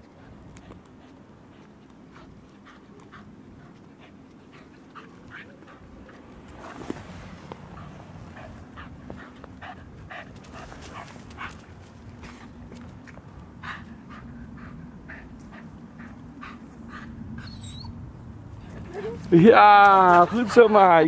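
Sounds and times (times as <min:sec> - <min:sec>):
small dog sniffing and panting: 0:00.0 - 0:18.0.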